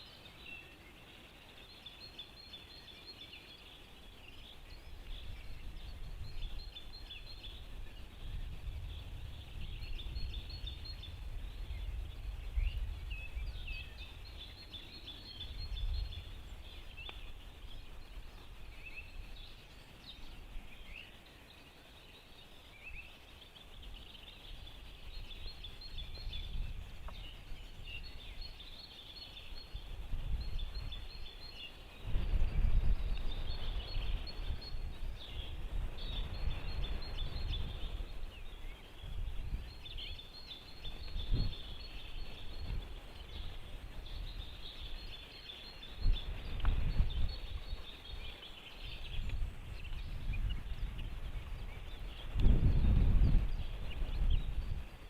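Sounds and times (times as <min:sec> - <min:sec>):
small birds twittering: 0:00.0 - 0:55.0
wind rumbling on microphone: 0:02.1 - 0:55.0.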